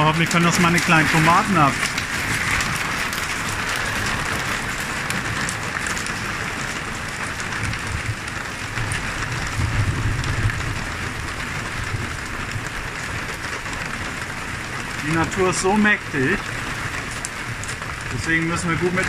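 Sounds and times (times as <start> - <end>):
rain and hail on plastic roof: 0.0 - 19.0.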